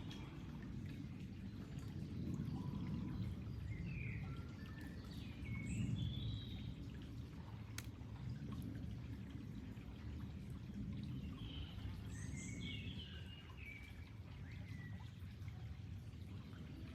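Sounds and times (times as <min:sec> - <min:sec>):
water flowing: 0:00.0 - 0:16.9.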